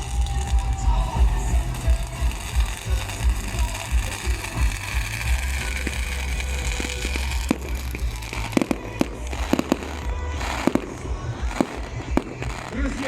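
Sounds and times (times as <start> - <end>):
background music: 0.0 - 13.0
fireworks bangs and pops: 0.0 - 13.0.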